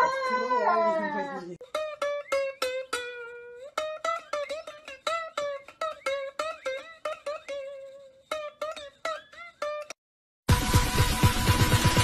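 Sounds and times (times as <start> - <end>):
plucked string tune: 1.6 - 12.0.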